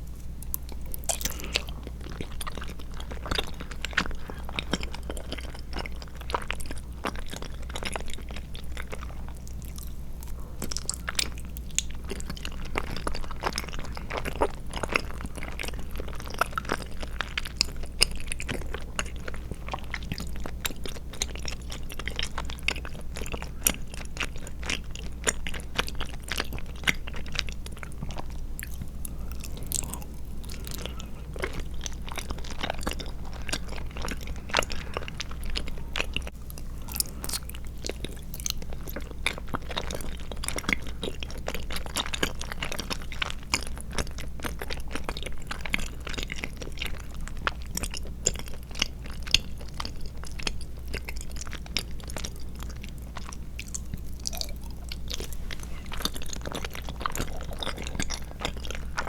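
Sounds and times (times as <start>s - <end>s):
steady low hum: 0.0s - 59.0s
wet chewing mouth clicks: 0.4s - 59.0s.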